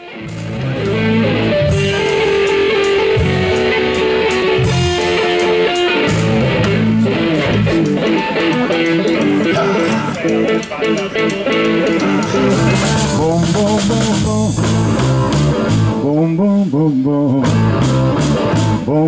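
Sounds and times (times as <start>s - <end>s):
bass line: 0.0s - 19.0s
guitar background music: 0.0s - 19.0s.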